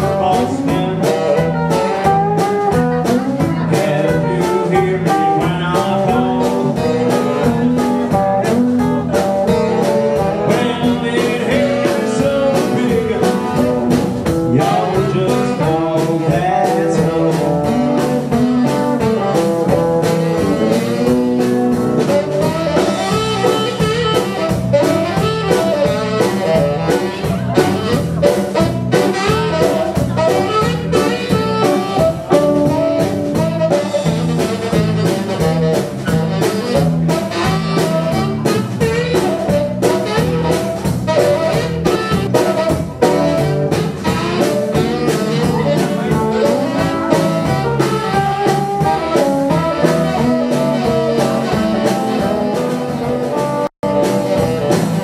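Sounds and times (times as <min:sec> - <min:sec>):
live blues band playing: 0:00.0 - 0:55.0
saxophone: 0:00.0 - 0:55.0.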